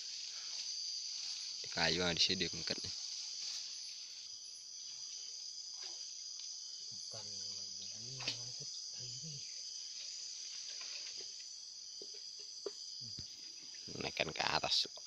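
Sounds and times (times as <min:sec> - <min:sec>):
insects buzzing trill: 0:00.0 - 0:15.0.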